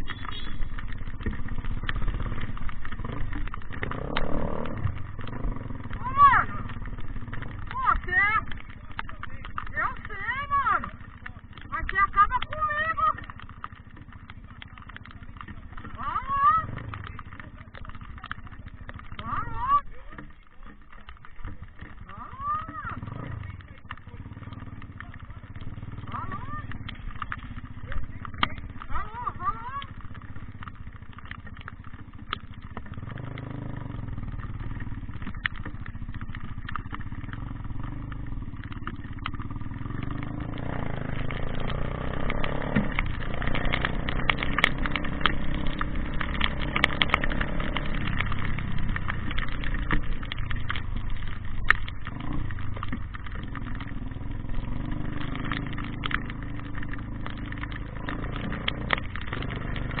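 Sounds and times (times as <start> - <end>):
motor vehicle engine running: 0.0 - 60.0.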